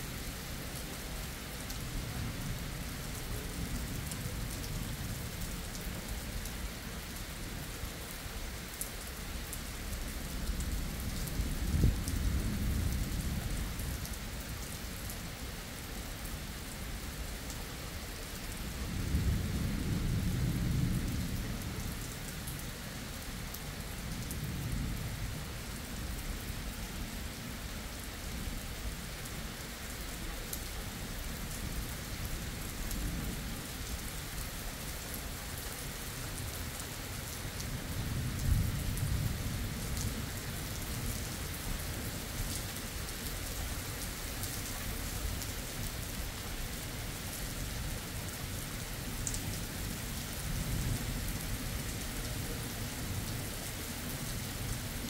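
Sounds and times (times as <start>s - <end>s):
rain falling on road: 0.0s - 55.0s.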